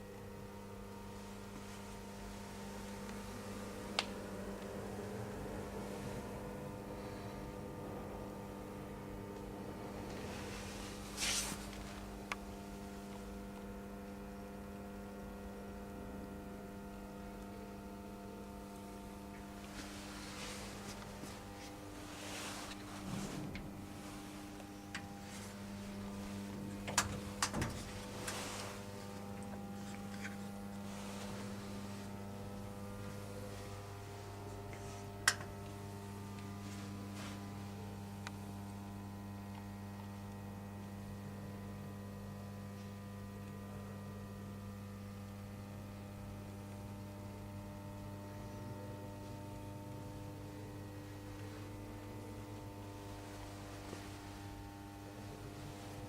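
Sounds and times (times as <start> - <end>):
electrical machine hum: 0.0 - 56.0.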